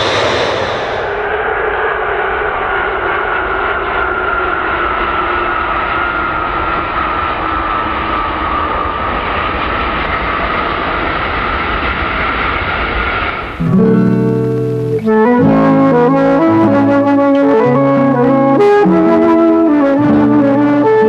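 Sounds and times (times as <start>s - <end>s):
jet engine whine: 0.0s - 21.0s
jet engines roaring: 0.0s - 21.0s.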